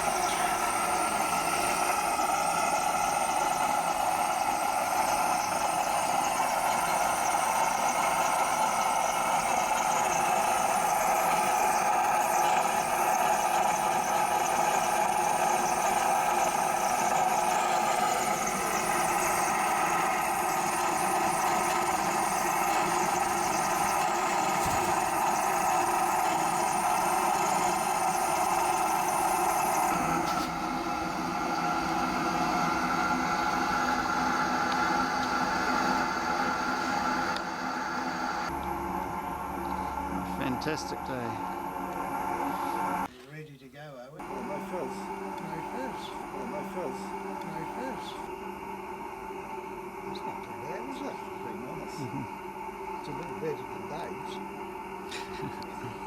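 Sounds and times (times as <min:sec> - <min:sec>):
oil burner running: 0:00.0 - 0:43.1, 0:44.2 - 0:56.0.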